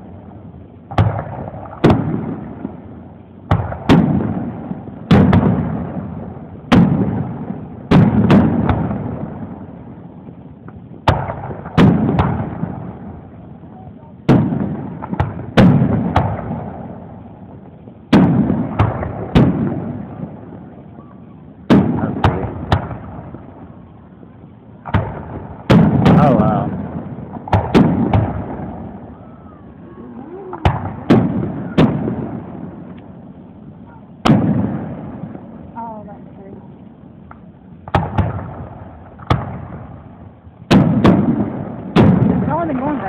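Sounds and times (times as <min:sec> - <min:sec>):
fireworks booming with echo: 0:00.0 - 0:43.0.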